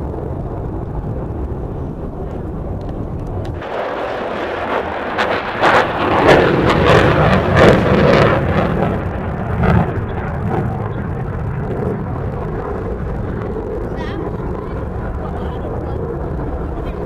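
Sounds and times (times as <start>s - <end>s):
aircraft engine roar: 0.0s - 17.0s.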